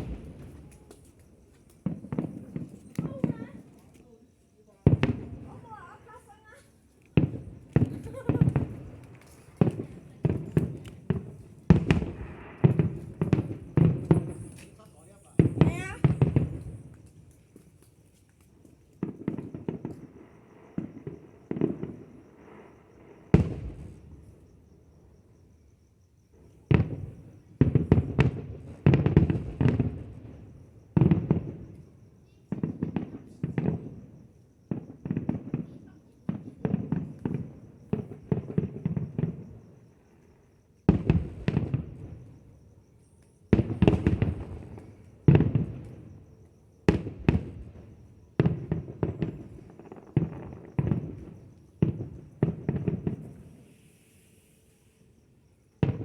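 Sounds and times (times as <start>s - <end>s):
fireworks banging: 0.0s - 4.0s, 4.8s - 24.4s, 26.5s - 31.8s, 32.5s - 39.7s, 40.9s - 42.5s, 43.5s - 46.2s, 46.8s - 53.9s.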